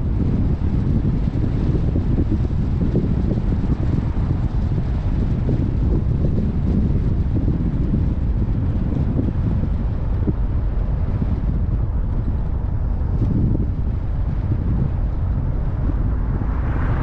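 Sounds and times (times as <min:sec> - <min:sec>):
car road noise: 0:00.0 - 0:17.0
wind buffeting microphone: 0:00.0 - 0:17.0.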